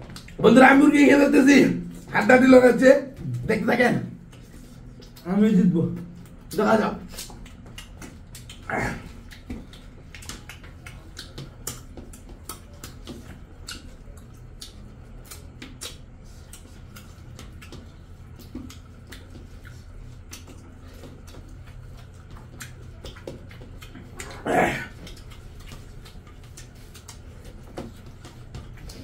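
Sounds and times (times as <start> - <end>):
steady low hum: 0.0 - 29.0
wet chewing and eating sounds: 0.0 - 29.0.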